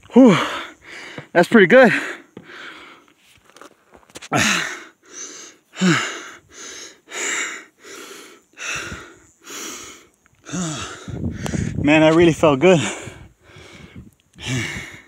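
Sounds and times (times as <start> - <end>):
man panting heavily: 0.0 - 3.1, 4.2 - 11.9, 12.6 - 15.0.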